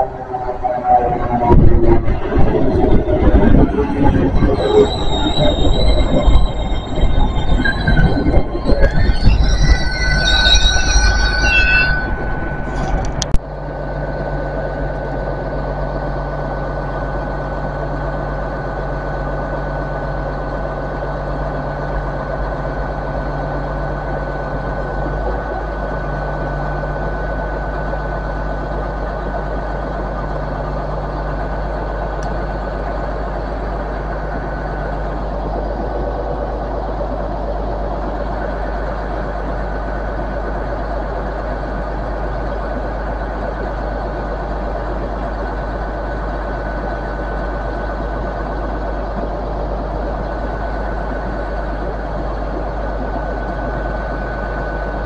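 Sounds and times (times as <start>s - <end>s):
train diesel engines idling: 0.0s - 55.0s.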